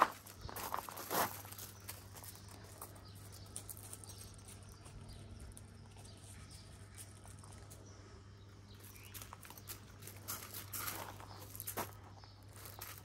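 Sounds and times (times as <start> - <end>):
footsteps on gravel: 0.0 - 8.0, 8.6 - 13.0
steady low hum: 0.0 - 13.0.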